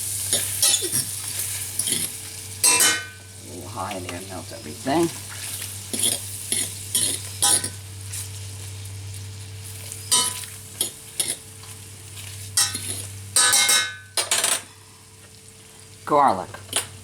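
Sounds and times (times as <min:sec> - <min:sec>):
shrimp sizzling in frying pan: 0:00.0 - 0:17.0.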